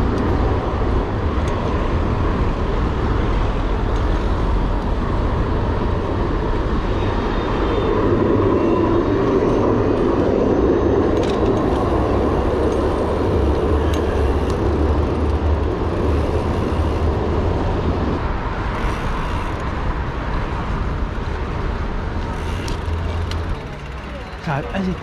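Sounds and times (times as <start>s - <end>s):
city road traffic: 0.0s - 25.0s.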